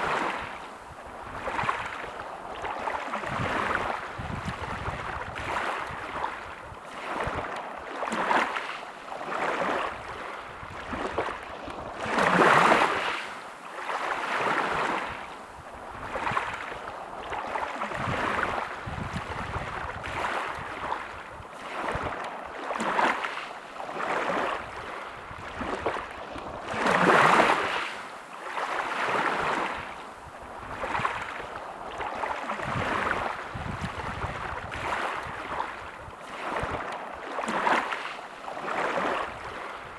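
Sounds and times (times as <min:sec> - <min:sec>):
larger waves breaking: 0:00.0 - 0:39.9
small waves washing on shore: 0:00.0 - 0:39.9.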